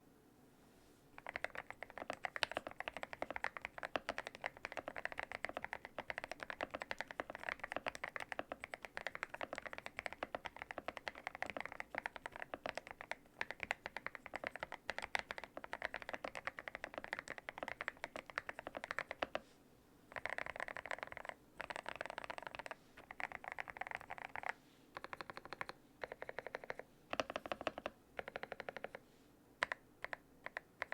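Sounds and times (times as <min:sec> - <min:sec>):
fast typing on mechanical keyboard: 0:01.2 - 0:19.4, 0:20.1 - 0:29.0, 0:29.6 - 0:30.9.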